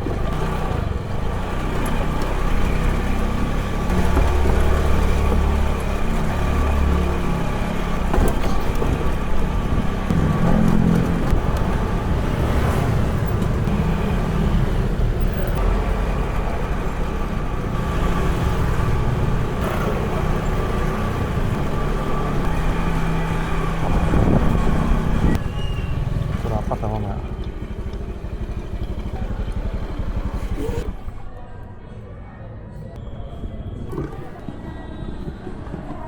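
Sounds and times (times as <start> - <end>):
vehicle engine running: 0.0 - 31.8
street noise: 0.0 - 36.0.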